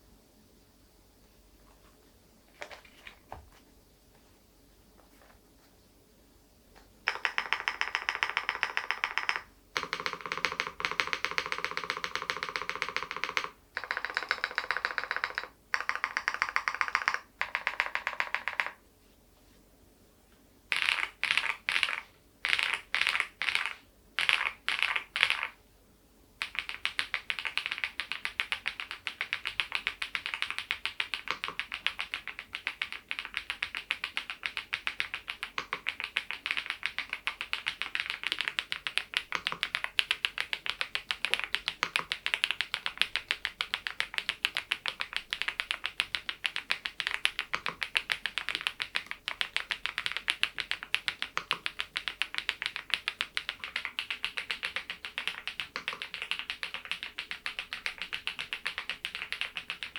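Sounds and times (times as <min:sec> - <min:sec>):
mechanical keyboard typing: 0:07.1 - 0:18.8, 0:20.7 - 0:25.6, 0:26.4 - 0:59.9.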